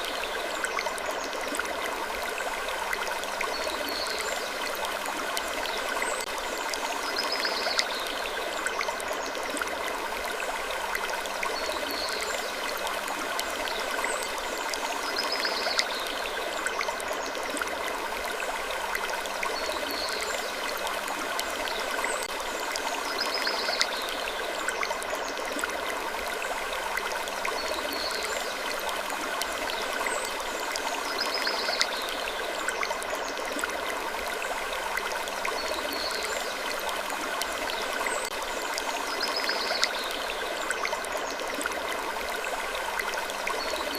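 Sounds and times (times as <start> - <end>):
rushing water-like ambience: 0.0 - 43.9.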